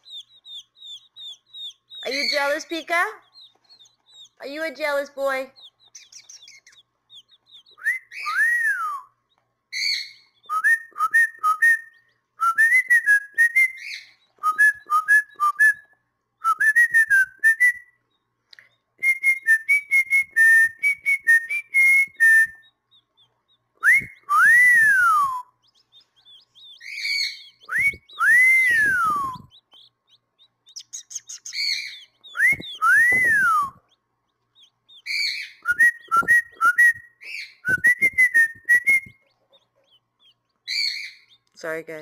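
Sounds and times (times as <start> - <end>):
bird whistling: 0.0 - 4.4, 5.6 - 18.0, 19.0 - 33.9, 34.6 - 41.4.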